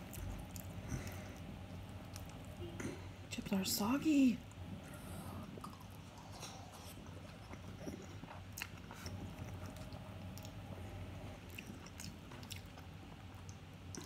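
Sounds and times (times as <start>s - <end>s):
person chewing food: 0.0s - 3.0s, 4.5s - 14.0s
low steady hum: 0.0s - 14.0s.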